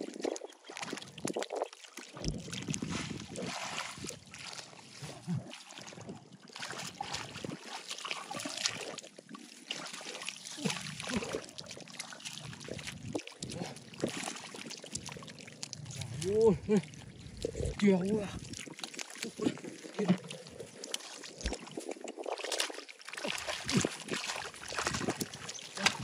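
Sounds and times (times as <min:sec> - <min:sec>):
splashing in shallow muddy water: 0:00.0 - 0:26.0
fish thrashing: 0:02.2 - 0:26.0.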